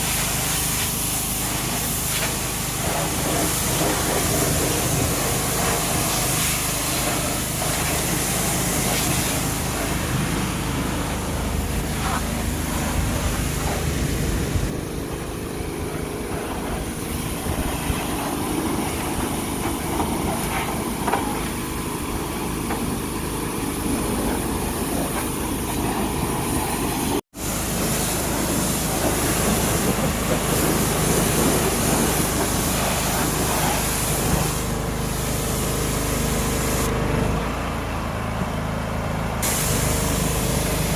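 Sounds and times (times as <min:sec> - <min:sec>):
small engine running: 0:01.6 - 0:40.9.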